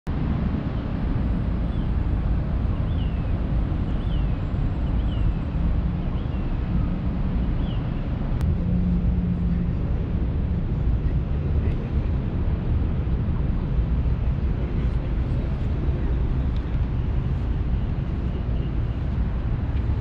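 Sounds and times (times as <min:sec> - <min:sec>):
low outdoor rumble: 0:00.1 - 0:20.0.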